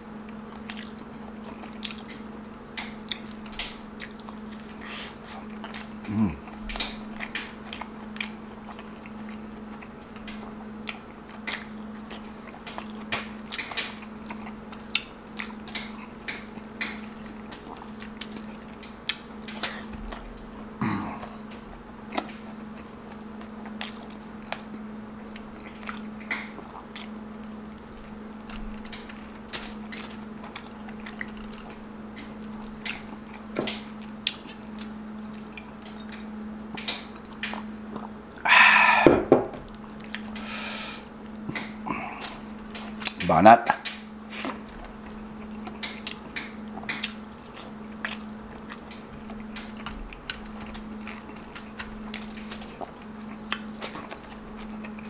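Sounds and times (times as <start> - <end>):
steady low hum: 0.0 - 55.0
wet chewing and lip smacking: 0.2 - 38.4, 39.6 - 55.0.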